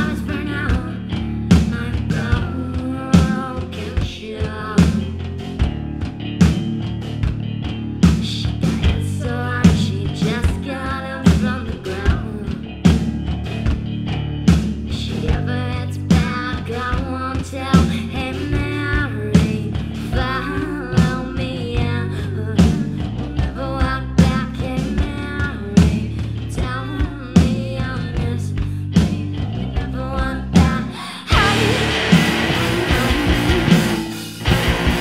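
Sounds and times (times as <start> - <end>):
person singing: 0.0 - 5.3, 8.0 - 12.7, 14.9 - 29.2, 29.8 - 35.0
bass guitar: 0.0 - 35.0
drum kit beat: 0.0 - 35.0.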